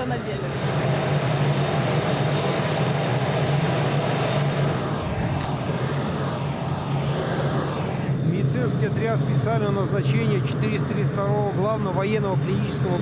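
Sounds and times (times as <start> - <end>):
high-pitched whine: 0.0 - 13.0
jet engines roaring: 0.0 - 13.0
low hum: 0.0 - 13.0.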